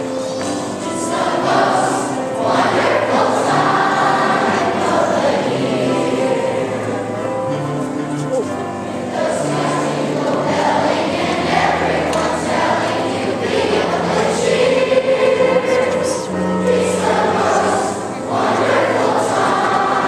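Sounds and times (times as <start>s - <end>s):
choir singing: 0.0s - 7.7s, 8.6s - 20.0s
instrumental waltz accompaniment: 0.0s - 20.0s.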